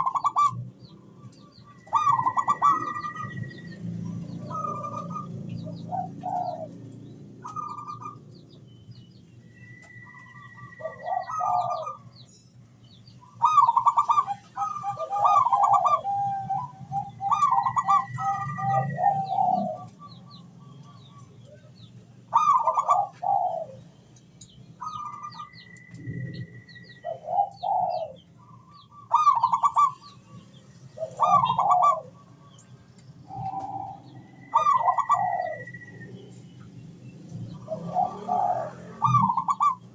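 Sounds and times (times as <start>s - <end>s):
doves cooing: 0.0s - 8.4s, 9.5s - 12.2s, 13.2s - 24.0s, 24.8s - 39.9s
small birds chirping: 0.0s - 39.9s.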